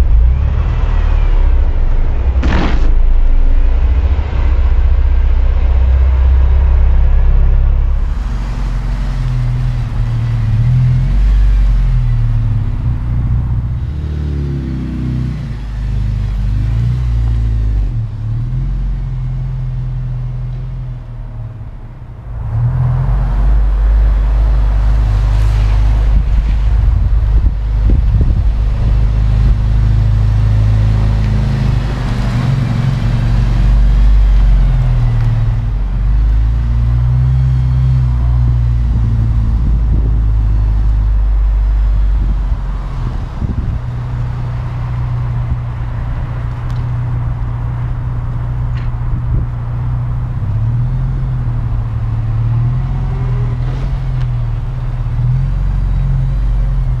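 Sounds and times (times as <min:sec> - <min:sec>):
wind rumble on microphone: 0:00.0 - 0:19.0, 0:21.0 - 0:57.0
car engine revving: 0:00.0 - 0:57.0.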